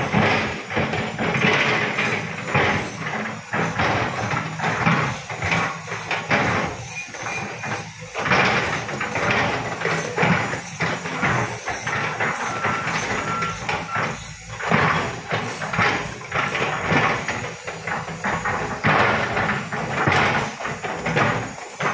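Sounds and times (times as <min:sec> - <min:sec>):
excavator diesel engine: 0:00.0 - 0:21.9.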